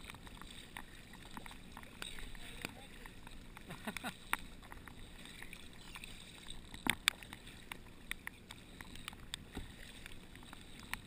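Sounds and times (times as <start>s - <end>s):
paddle splashing in water: 0.0s - 11.0s
wind: 0.0s - 11.0s.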